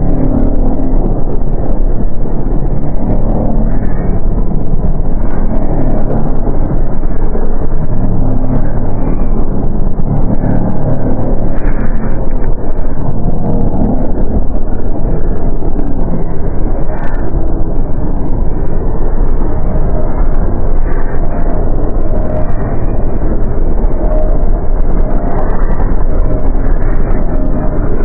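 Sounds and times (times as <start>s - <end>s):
dense low rumble: 0.0s - 28.0s
faint scattered crackles: 0.0s - 28.0s.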